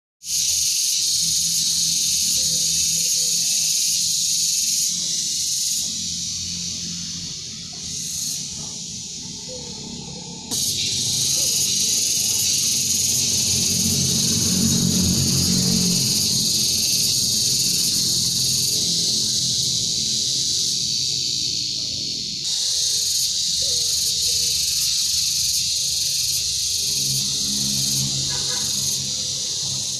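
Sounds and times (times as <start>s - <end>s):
cicadas buzzing: 0.2s - 29.9s.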